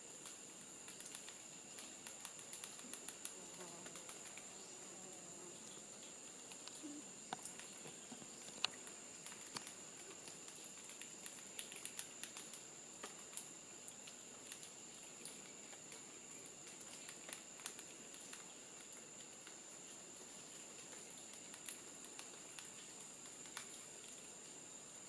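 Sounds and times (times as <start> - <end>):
insect drone: 0.0 - 25.0
small ticks and rustles: 0.0 - 25.0.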